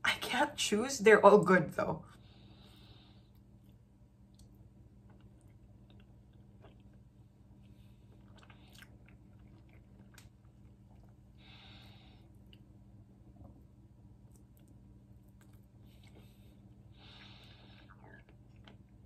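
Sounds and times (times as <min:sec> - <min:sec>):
low steady hum: 0:00.0 - 0:19.0
chewing soft bread: 0:02.2 - 0:19.0.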